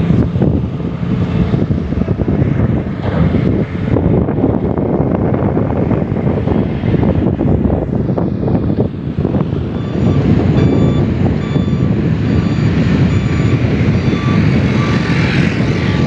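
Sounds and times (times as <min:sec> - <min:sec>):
excavator diesel engines rumbling: 0:00.0 - 0:16.0.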